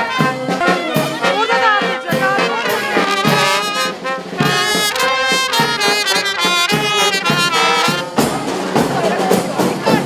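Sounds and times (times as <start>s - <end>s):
quick melody of short notes: 0.0s - 8.3s.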